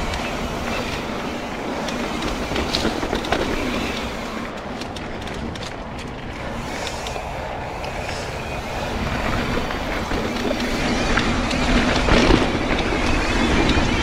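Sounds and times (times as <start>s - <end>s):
bike rattling and knocking: 0.0s - 14.0s
bike tyres on dirt: 0.0s - 14.0s
wind on microphone: 0.0s - 14.0s.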